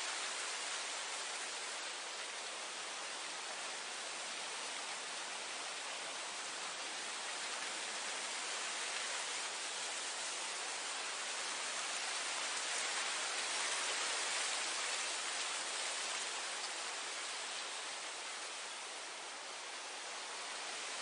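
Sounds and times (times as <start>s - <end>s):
wind blowing through grass: 0.0s - 21.0s.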